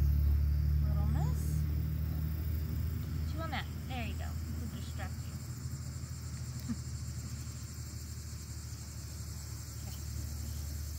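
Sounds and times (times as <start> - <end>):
insects chirring: 0.0 - 10.9
low steady hum: 0.0 - 10.9.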